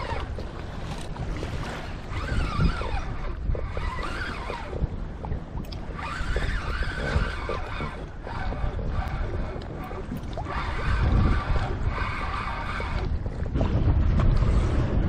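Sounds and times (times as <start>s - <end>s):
fishing reel whirring: 0.0s - 13.4s
sea noise: 0.0s - 15.0s
wind on microphone: 0.0s - 15.0s.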